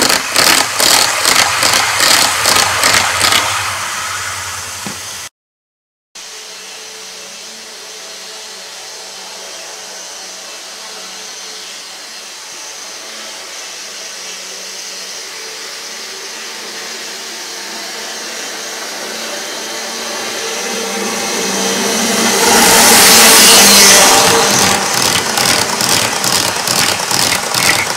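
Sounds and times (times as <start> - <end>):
model train running on rails: 0.0 - 5.3, 6.2 - 27.9.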